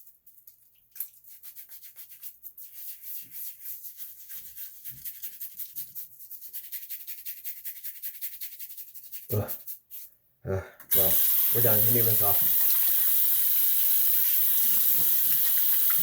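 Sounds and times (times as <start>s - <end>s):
shaving brush scrubbing lather: 1.0s - 10.1s, 10.9s - 16.0s.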